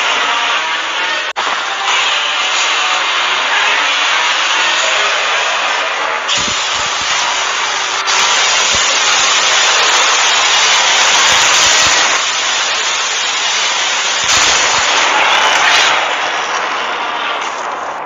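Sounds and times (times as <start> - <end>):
loud rushing hiss: 0.0 - 18.0.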